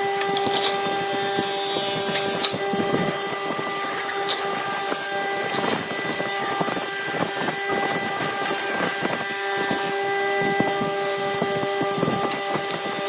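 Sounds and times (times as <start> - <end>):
lathe motor whine: 0.0 - 13.0
turning tool scraping wood: 0.0 - 13.0.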